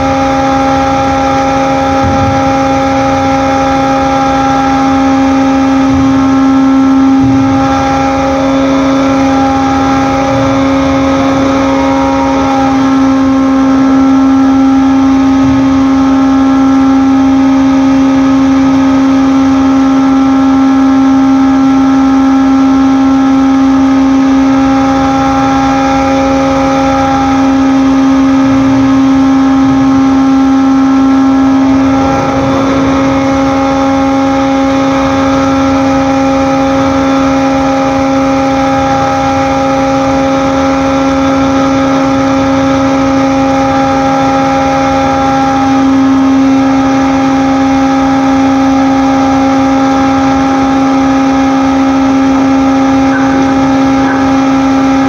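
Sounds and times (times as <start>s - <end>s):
ship machinery droning: 0.0s - 55.0s.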